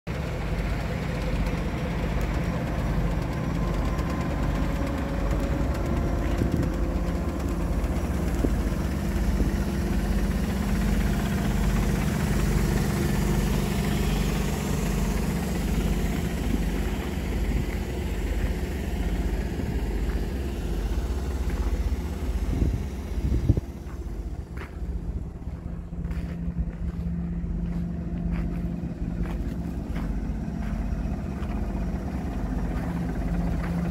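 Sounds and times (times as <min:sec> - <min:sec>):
truck engine idling: 0:00.1 - 0:33.9.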